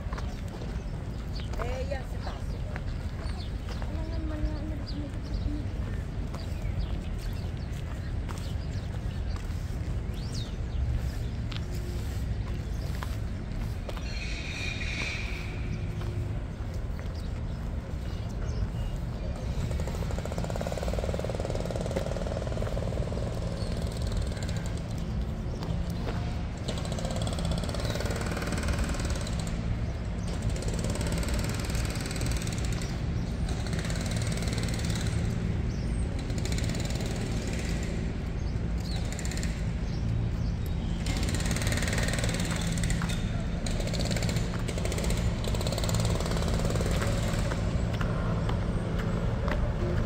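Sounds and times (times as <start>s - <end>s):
city noise: 0.0s - 50.0s
low engine hum: 0.0s - 50.0s.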